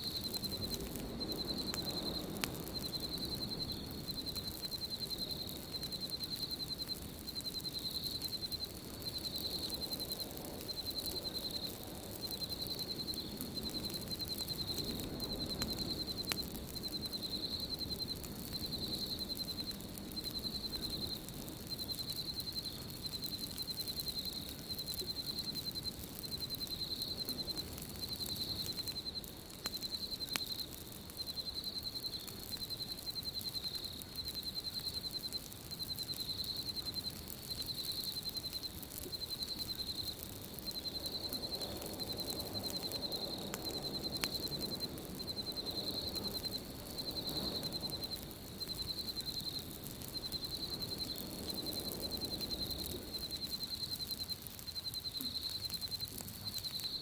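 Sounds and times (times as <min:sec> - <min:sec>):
campfire crackling: 0:00.0 - 0:57.0
insects chirping in trills: 0:00.0 - 0:57.0.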